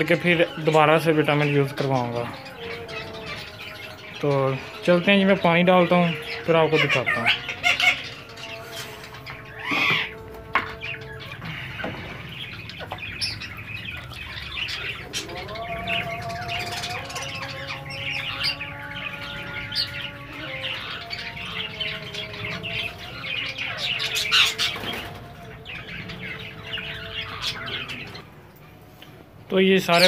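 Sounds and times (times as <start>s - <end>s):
parrots chirping and calling: 0.0s - 29.1s, 29.7s - 30.0s.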